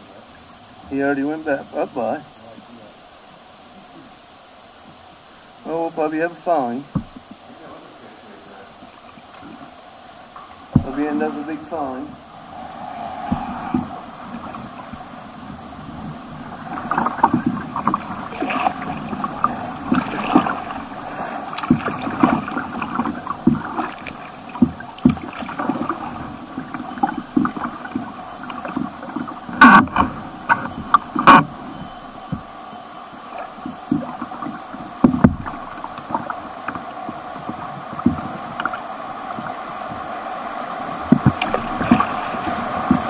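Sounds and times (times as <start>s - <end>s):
kayak paddles splashing: 0.0s - 43.0s
stream water gurgling: 0.0s - 43.0s.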